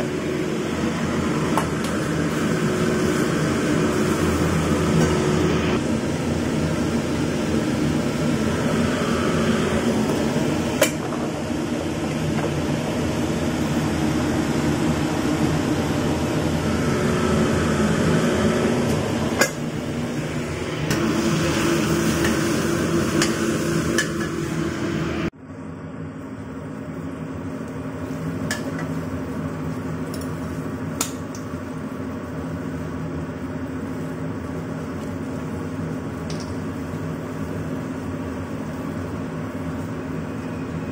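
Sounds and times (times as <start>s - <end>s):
kitchen fan humming: 0.0s - 40.9s.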